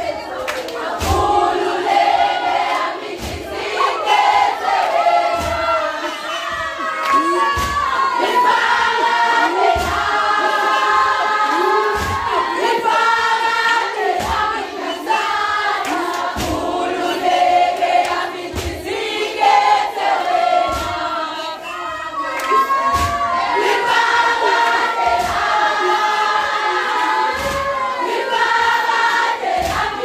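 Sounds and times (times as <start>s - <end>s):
group of girls singing: 0.0s - 30.0s.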